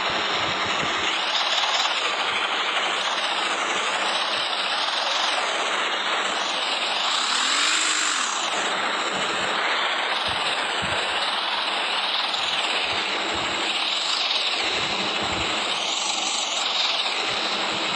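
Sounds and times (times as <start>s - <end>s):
tractor engine droning: 0.0s - 17.9s.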